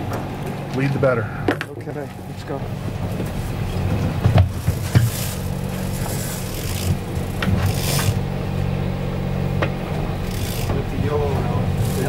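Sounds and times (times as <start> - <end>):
boat engine running: 0.0 - 12.0
gear knocking and scraping: 0.0 - 12.0.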